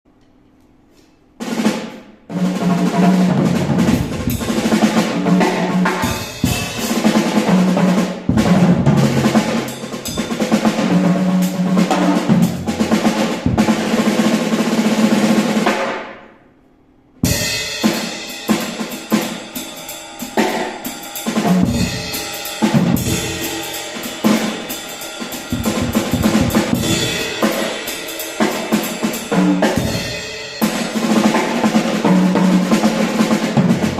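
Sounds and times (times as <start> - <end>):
drum kit playing: 1.4 - 16.2, 17.2 - 33.9.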